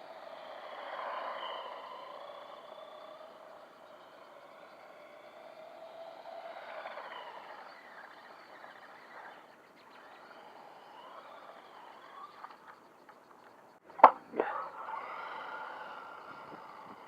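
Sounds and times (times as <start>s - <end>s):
toy truck electric motor whining: 0.0s - 13.5s, 14.7s - 17.0s.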